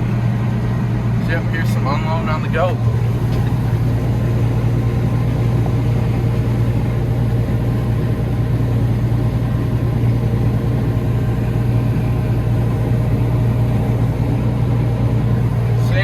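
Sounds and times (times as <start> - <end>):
farm machine engine drone: 0.0 - 16.0.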